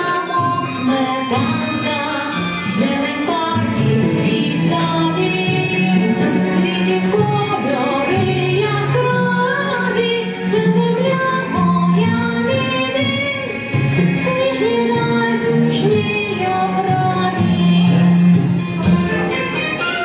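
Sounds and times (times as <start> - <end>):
instrumental backing: 0.0 - 20.0.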